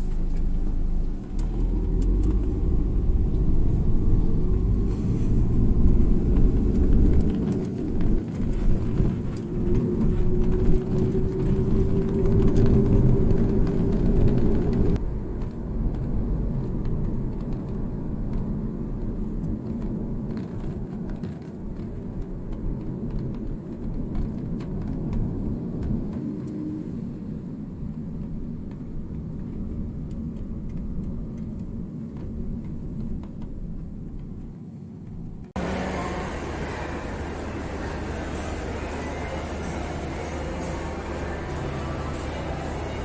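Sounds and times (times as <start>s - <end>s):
motor vehicle engine rumbling: 0.0s - 43.0s.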